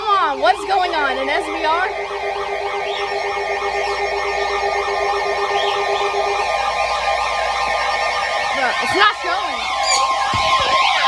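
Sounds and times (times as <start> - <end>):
steady tone: 0.0 - 11.0
warbling electronic alert tone: 0.0 - 11.0.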